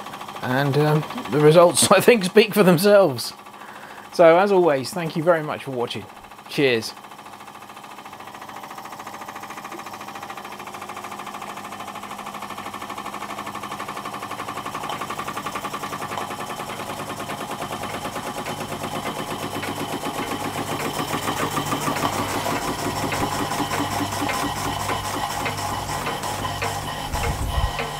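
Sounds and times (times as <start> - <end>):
model steam engine beat: 0.0 - 27.9.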